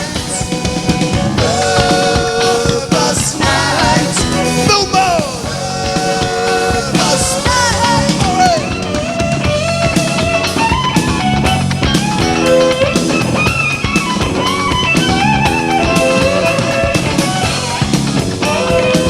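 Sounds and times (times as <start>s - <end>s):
melodic lead guitar line: 0.0s - 19.0s
rock band playing instrumental: 0.0s - 19.0s.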